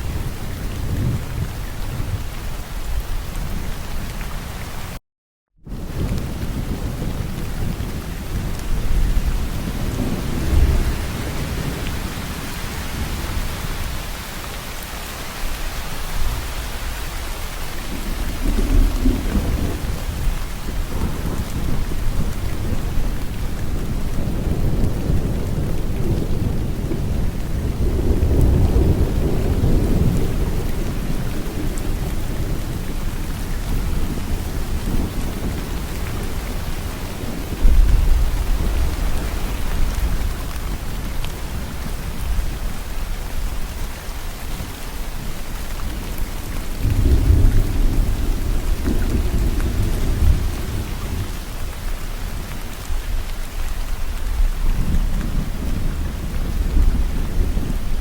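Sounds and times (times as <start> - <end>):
low rolling thunder: 0.0 - 2.3, 5.7 - 14.4, 17.2 - 58.0
rain falling: 0.0 - 5.0, 5.7 - 58.0.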